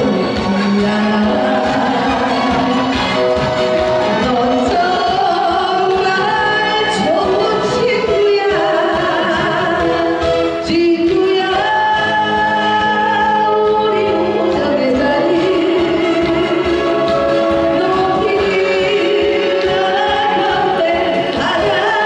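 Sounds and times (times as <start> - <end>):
person singing: 0.0 - 22.0
recorded backing track: 0.0 - 22.0.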